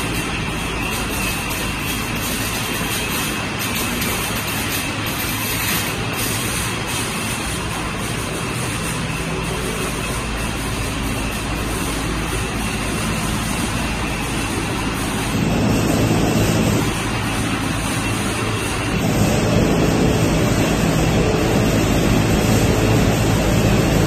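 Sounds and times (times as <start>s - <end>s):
conveyor belts and motors running: 0.0s - 24.0s.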